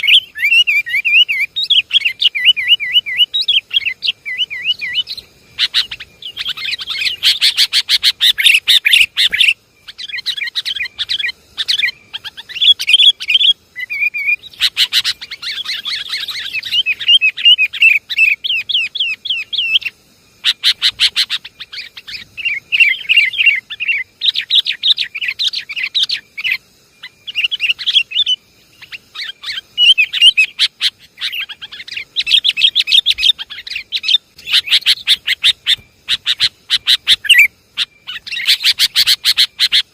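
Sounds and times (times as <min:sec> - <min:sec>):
birds chattering: 0:00.0 - 0:39.9
sharp ticking bird notes: 0:00.0 - 0:39.9.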